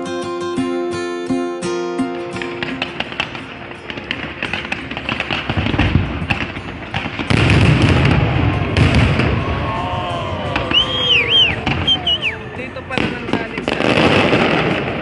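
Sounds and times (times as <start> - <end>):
fireworks crackling and popping: 2.3 - 15.0
firework shells booming: 2.4 - 15.0.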